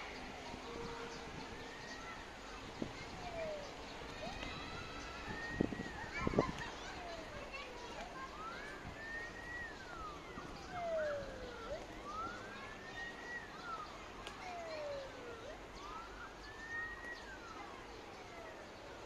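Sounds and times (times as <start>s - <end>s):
emergency vehicle siren wailing: 0.0s - 19.0s.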